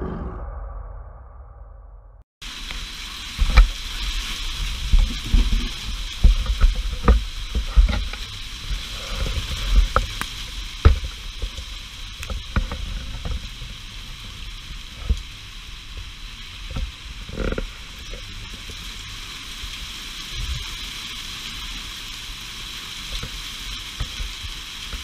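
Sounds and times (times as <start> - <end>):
hail and rain hissing: 2.4 - 25.0
hailstones clicking: 2.4 - 25.0.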